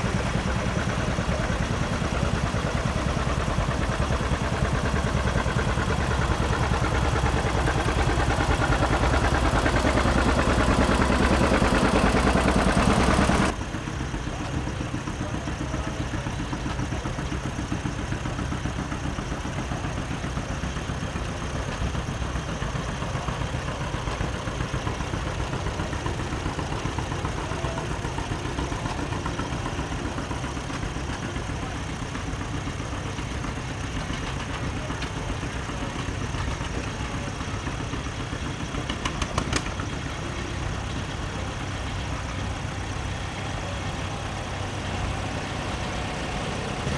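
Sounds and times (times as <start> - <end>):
tractor engines running: 0.0 - 46.9.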